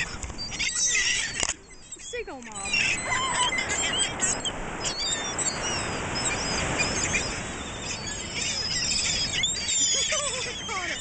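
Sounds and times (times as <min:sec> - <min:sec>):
seagulls calling: 0:00.0 - 0:11.0.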